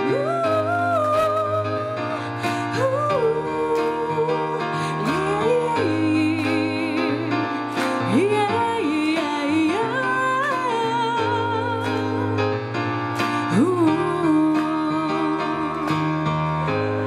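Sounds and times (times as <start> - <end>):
woman singing with vibrato: 0.0 - 12.4, 13.4 - 17.0
instrumental accompaniment: 0.0 - 17.0.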